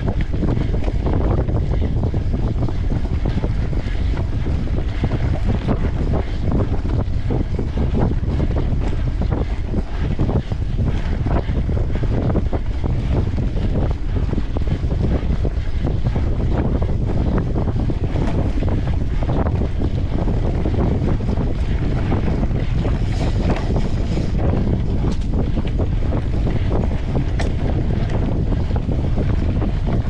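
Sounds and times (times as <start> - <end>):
bike rattling and knocking: 0.0 - 30.0
wind buffeting microphone: 0.0 - 30.0.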